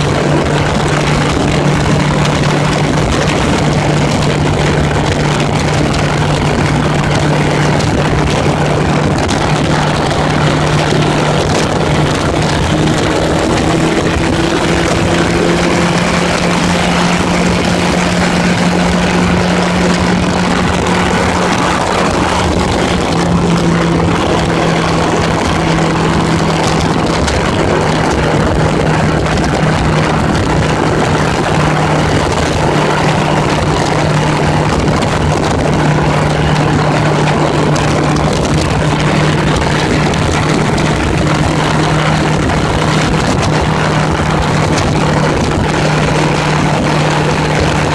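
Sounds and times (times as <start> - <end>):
motorcycle engine cruising: 0.0 - 47.9
wind and road noise: 0.0 - 47.9.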